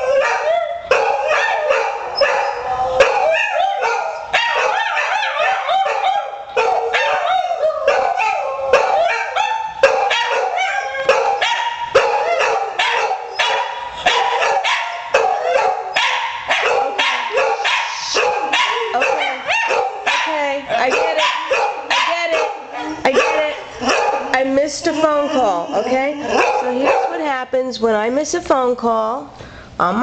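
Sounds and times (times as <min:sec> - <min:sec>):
dogs howling and barking: 0:00.0 - 0:27.4.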